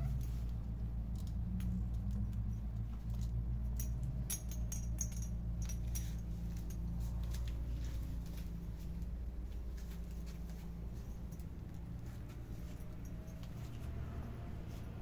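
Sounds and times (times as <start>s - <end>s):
kittens clicking and scratching toy: 0.0s - 15.0s
low steady hum: 0.0s - 15.0s.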